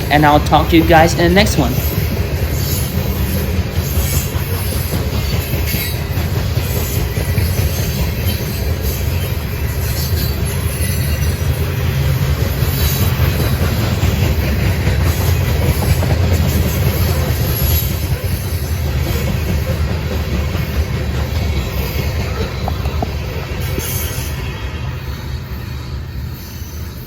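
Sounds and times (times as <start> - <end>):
freight train rumbling on rails: 0.0 - 27.0.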